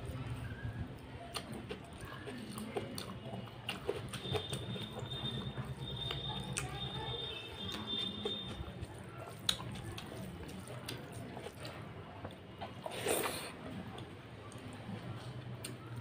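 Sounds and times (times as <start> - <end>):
hand squishing rice and curry: 1.3 - 14.7.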